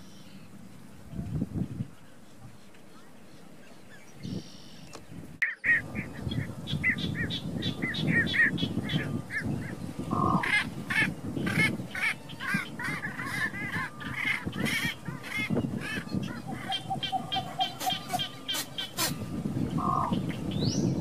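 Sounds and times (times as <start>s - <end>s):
low background noise: 0.0s - 21.0s
waterbirds honking: 1.8s - 21.0s.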